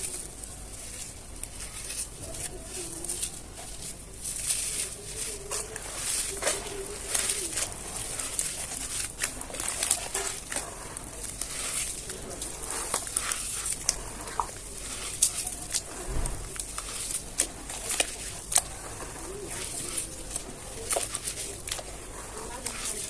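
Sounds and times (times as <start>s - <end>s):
cement chunks crunching by hand: 0.0s - 23.0s.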